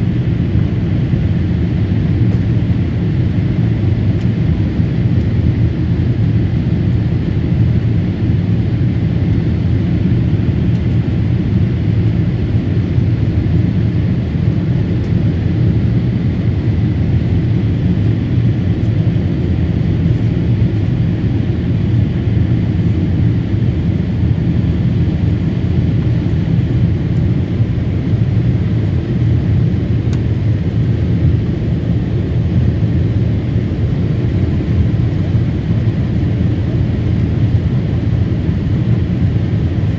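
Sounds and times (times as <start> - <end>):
jet engine cabin roar: 0.0 - 39.9.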